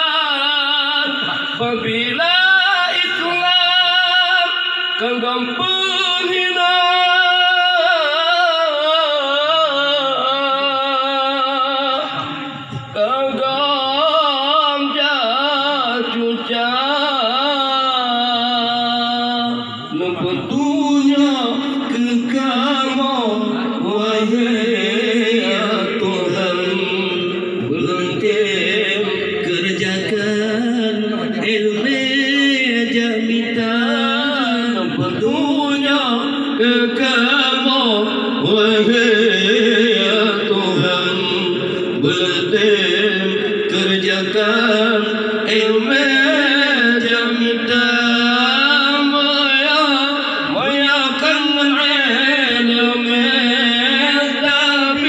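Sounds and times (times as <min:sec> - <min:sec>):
man singing into microphone: 0:00.0 - 0:55.0.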